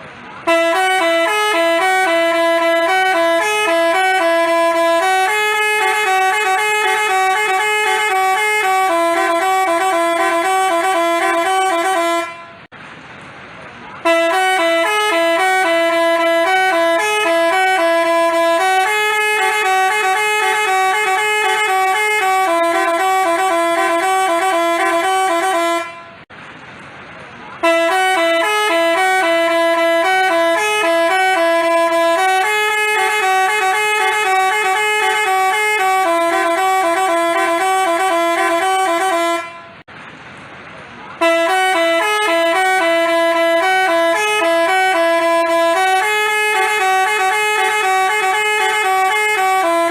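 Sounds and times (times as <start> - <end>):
musical bus horn playing a tune: 0.3 - 12.7, 14.0 - 26.3, 27.6 - 39.9, 41.2 - 49.9.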